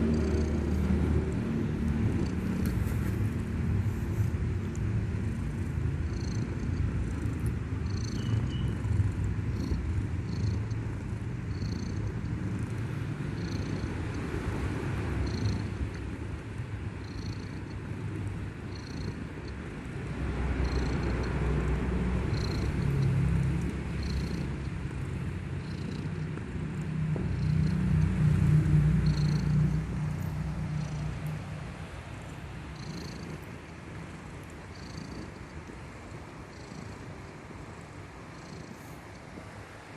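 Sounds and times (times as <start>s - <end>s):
kitten snoring: 0.0s - 39.9s.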